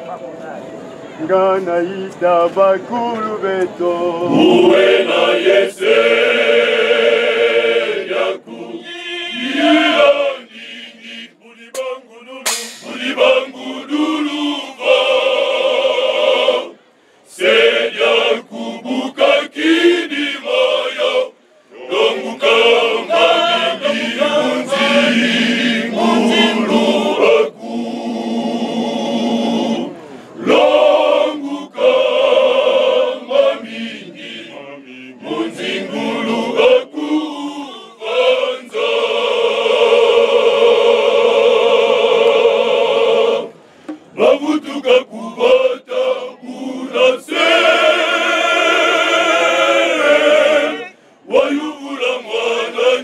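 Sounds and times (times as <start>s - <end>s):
male choir singing in harmony: 1.3s - 53.0s.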